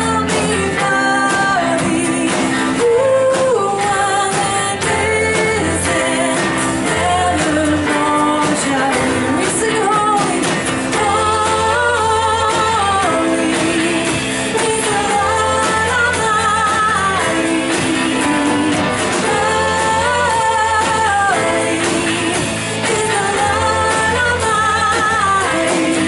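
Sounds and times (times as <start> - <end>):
band playing worship music: 0.0 - 26.0
singers singing a hymn: 0.0 - 26.0
steady bass: 0.0 - 26.0.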